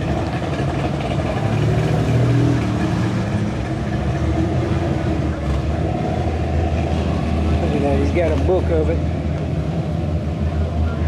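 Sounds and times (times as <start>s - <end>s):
car engines running slowly: 0.0s - 11.0s.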